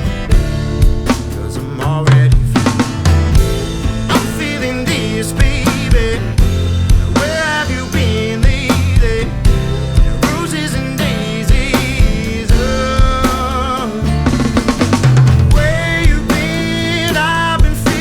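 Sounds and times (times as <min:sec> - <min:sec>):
bending melodic line: 0:00.0 - 0:18.0
drum kit playing: 0:00.0 - 0:18.0
rock band backing track: 0:00.0 - 0:18.0.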